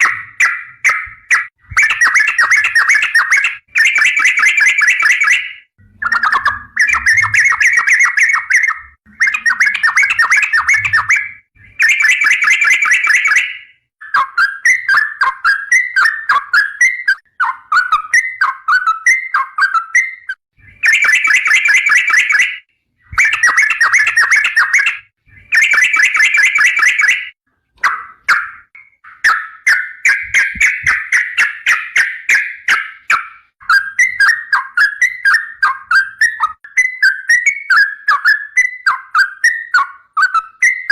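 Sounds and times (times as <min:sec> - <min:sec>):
bulbul singing chattering trills: 0:00.0 - 0:39.8.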